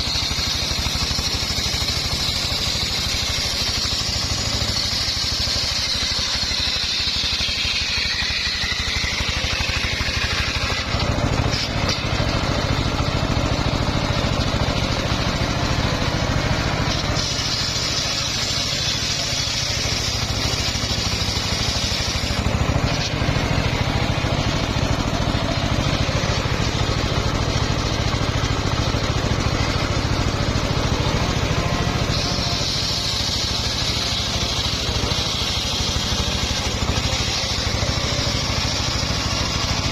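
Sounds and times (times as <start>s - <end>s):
engine throb: 0.0s - 39.9s
saw blade whine cutting log: 0.0s - 39.9s.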